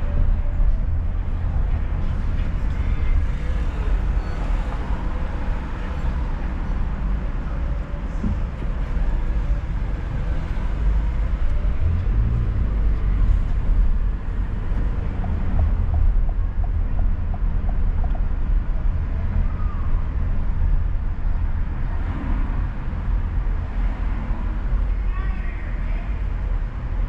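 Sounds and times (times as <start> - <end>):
car driving rumble: 0.0 - 27.0.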